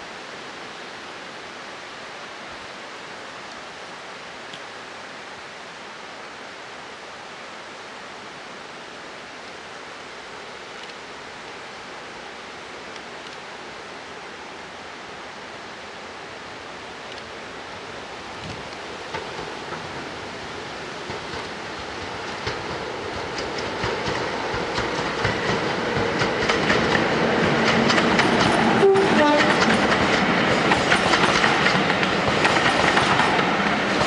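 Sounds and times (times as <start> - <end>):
rushing stream: 0.0 - 34.0.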